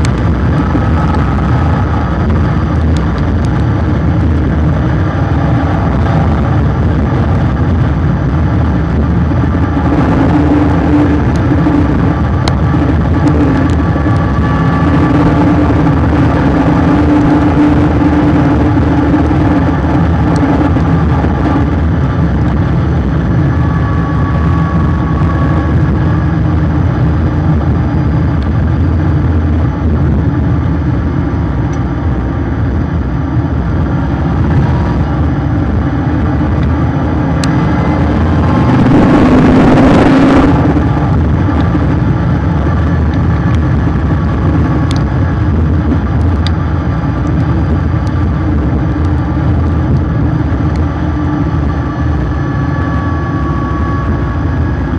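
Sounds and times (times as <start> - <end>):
car engine at speed: 0.0 - 54.9
wind noise: 0.0 - 54.9.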